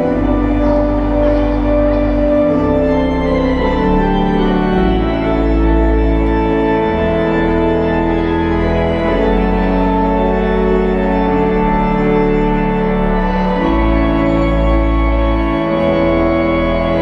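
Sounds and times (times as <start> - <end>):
pipe organ playing slow chords: 0.0 - 17.0.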